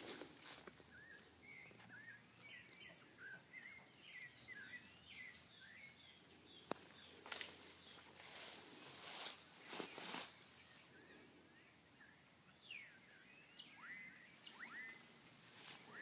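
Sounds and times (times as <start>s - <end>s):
bird chirping: 0.8s - 8.5s, 9.7s - 16.0s.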